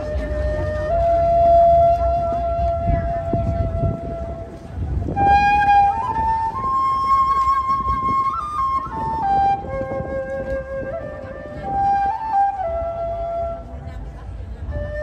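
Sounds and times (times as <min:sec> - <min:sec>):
soft string accompaniment: 0:00.0 - 0:15.0
transverse flute melody: 0:00.0 - 0:15.0.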